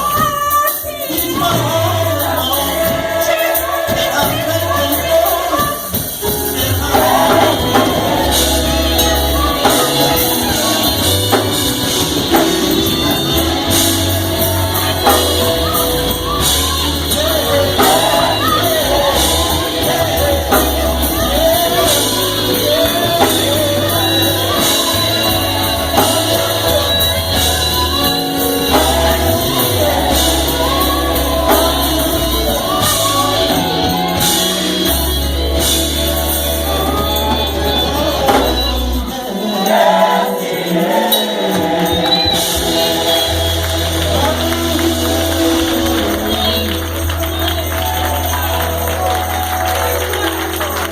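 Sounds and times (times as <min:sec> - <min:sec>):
gospel choir singing: 0:00.0 - 0:50.9
percussion: 0:00.0 - 0:50.9
bass line: 0:01.2 - 0:40.2, 0:41.6 - 0:50.9.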